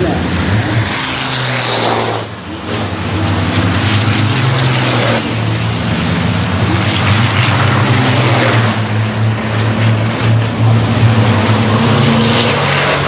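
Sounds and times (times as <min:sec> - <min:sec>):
truck diesel engine passing: 0:00.0 - 0:13.0.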